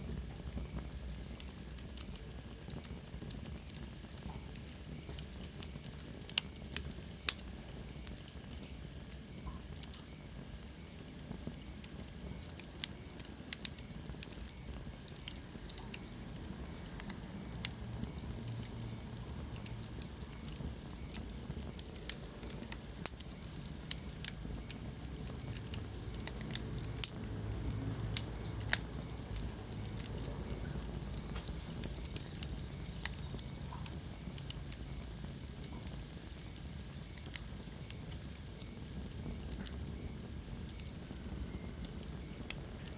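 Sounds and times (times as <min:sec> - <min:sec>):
low rumble of flames: 0:00.0 - 0:42.9
wood fire crackling and popping: 0:00.0 - 0:42.9.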